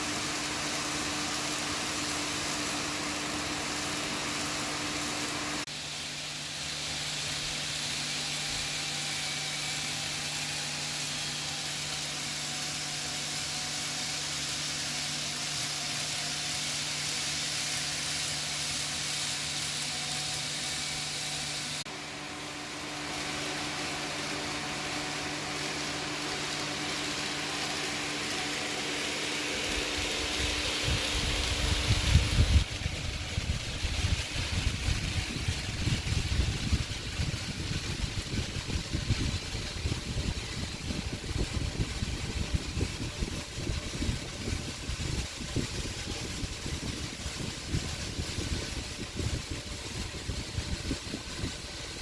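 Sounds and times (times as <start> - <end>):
faint motor whine: 0.0 - 52.0
model train wheels rolling: 0.0 - 52.0.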